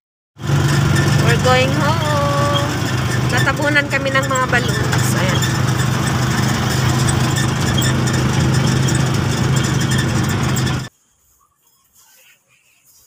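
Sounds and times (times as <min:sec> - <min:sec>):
vehicle engine humming: 0:00.4 - 0:10.9.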